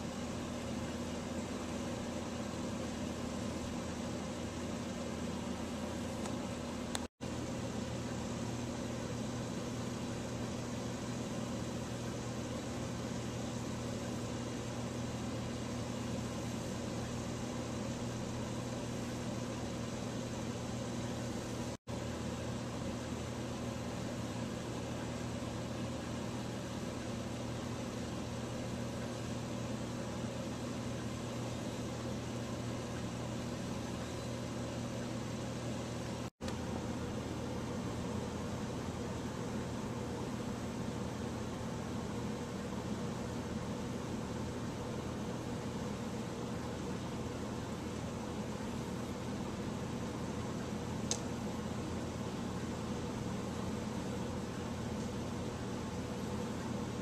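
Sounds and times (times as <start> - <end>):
electric fan whirring: 0.0 - 57.0.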